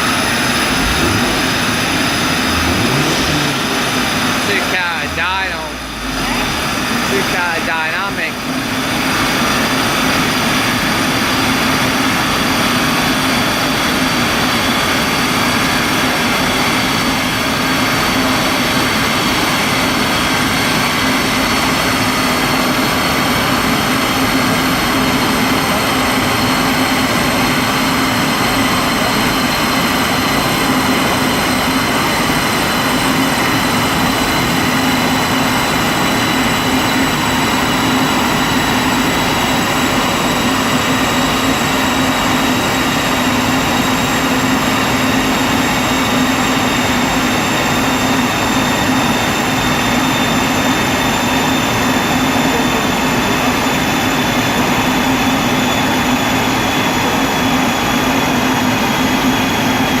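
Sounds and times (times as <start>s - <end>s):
car on dyno rollers droning: 0.0s - 60.0s.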